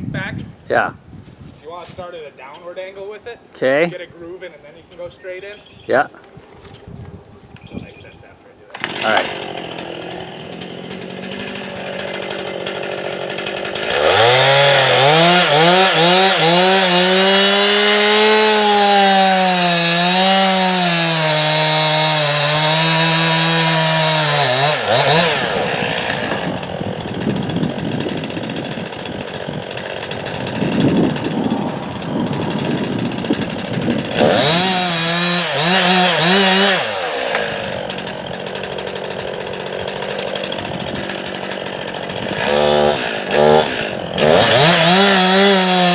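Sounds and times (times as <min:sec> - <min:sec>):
chainsaw idling and revving: 0:08.7 - 0:45.9.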